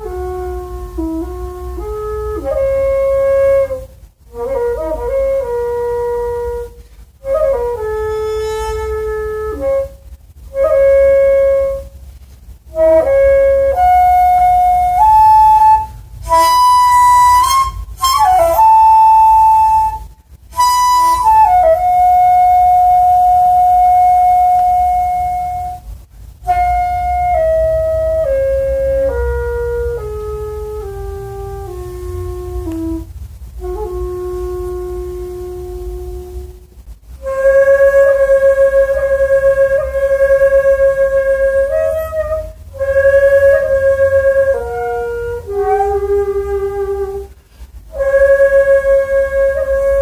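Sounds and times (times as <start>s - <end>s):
bamboo flute melody: 0.0s - 50.0s.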